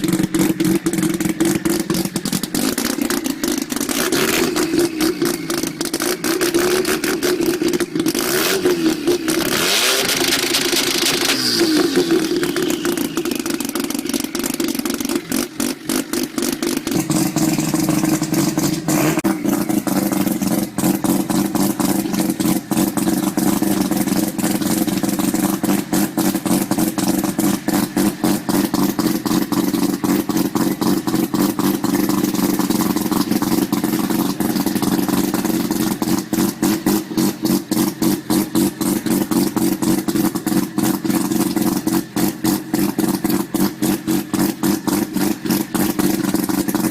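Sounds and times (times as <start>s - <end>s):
exhaust popping: 0.0s - 46.9s
rotary engine idling: 0.0s - 46.9s.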